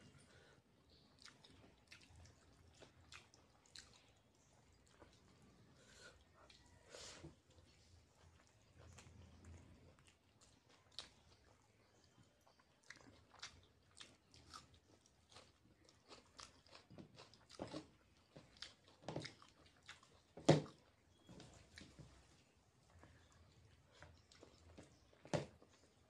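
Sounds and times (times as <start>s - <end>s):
person chewing noodles: 0.1s - 26.0s.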